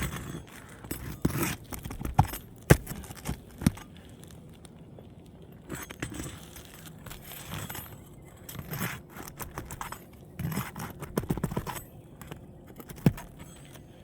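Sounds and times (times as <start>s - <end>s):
hatchet prying up shingles: 0.0s - 3.8s, 5.7s - 13.9s.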